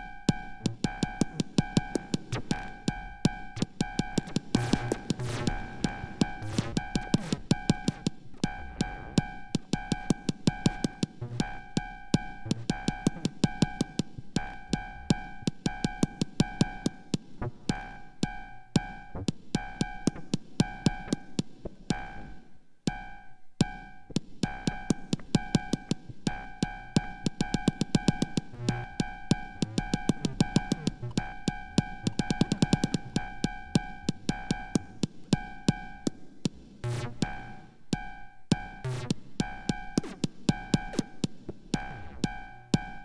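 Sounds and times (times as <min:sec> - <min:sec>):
synthesized kick drum: 0:00.0 - 0:22.4, 0:23.6 - 0:43.0
clicking drum machine percussion: 0:00.0 - 0:23.0, 0:23.6 - 0:43.0.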